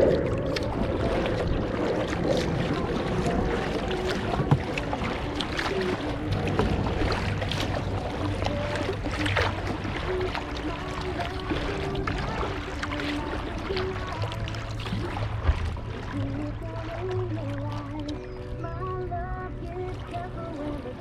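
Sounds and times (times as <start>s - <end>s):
water and wind hiss: 0.0s - 18.1s
paddle blades splashing: 0.0s - 21.0s.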